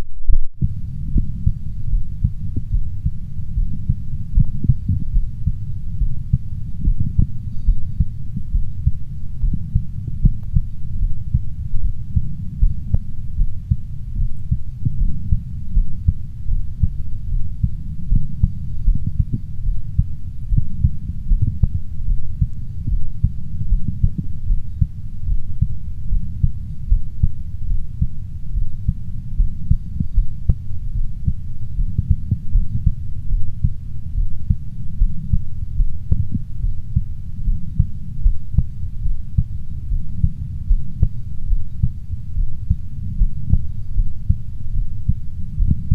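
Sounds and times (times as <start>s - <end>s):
heartbeat through stethoscope: 0.2s - 45.9s.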